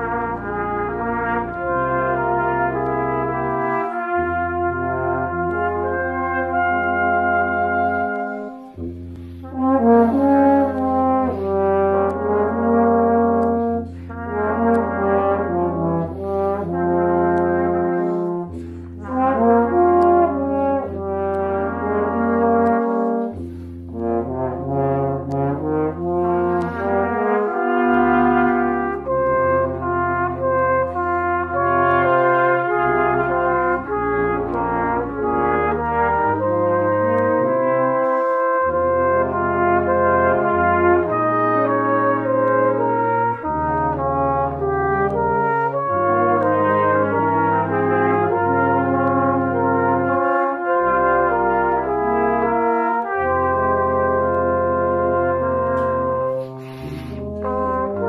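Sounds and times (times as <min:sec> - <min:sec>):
brass quintet playing slow melody: 0:00.0 - 0:58.0
tuba long low notes: 0:00.0 - 0:58.0.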